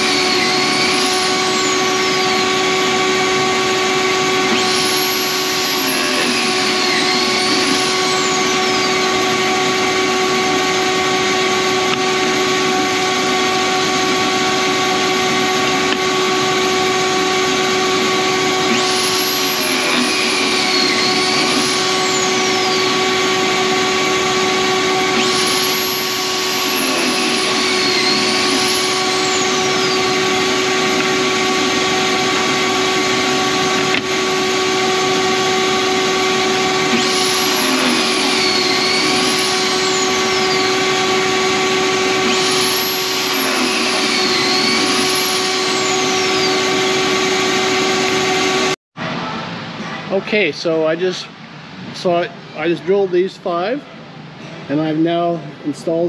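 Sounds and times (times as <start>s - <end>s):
drill motor whine: 0.0s - 48.8s
dust collector running: 0.0s - 48.8s.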